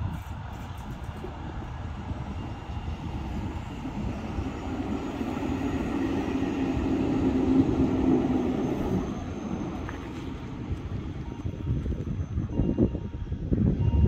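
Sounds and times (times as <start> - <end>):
train wheels rumbling on track: 0.0 - 14.0
electric train motor hum: 0.4 - 13.8.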